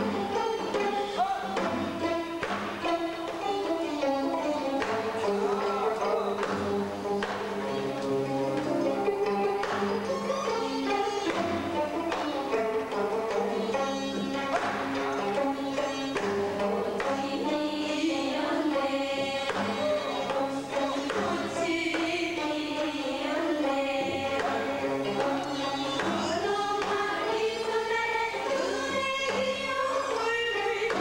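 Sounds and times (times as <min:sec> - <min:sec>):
women singing in unison: 0:00.0 - 0:08.0, 0:13.4 - 0:31.0.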